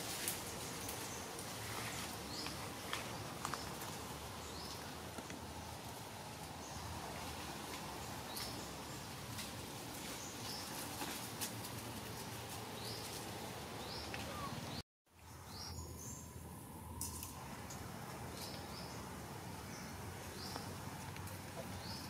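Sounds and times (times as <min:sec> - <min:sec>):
forest ambience hiss: 0:00.0 - 0:22.0.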